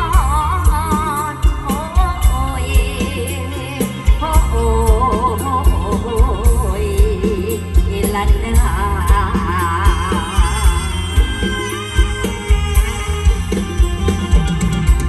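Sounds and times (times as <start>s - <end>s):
steady bass drum beat: 0.0s - 15.0s.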